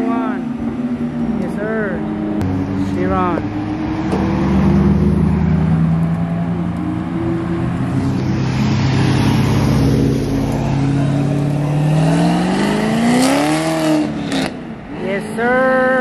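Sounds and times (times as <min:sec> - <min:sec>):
cars driving slowly past: 0:00.0 - 0:15.4
car engine revving: 0:00.0 - 0:16.0.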